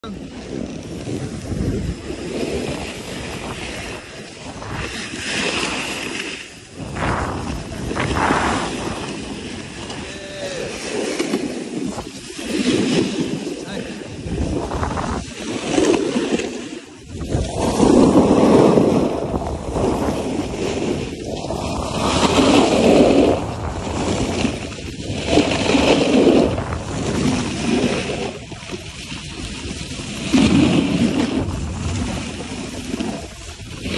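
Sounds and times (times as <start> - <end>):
wind rushing over microphone: 0.0 - 33.9
skis scraping over packed snow: 0.2 - 33.9.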